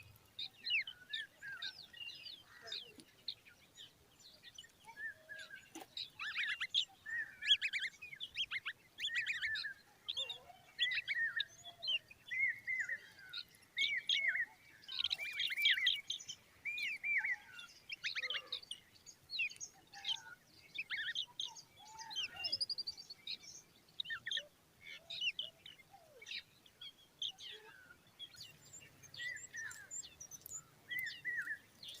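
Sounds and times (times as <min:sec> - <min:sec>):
birds chirping and calling: 0:00.0 - 0:32.0.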